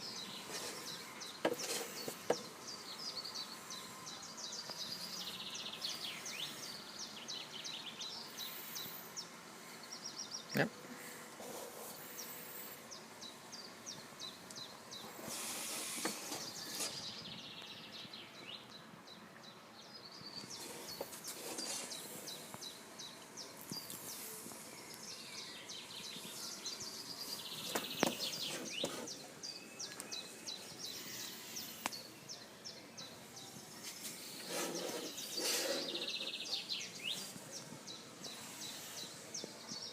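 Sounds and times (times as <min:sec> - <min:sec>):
steady hiss: 0:00.0 - 0:18.2, 0:20.2 - 0:39.9
birds chirping and singing: 0:00.0 - 0:39.9.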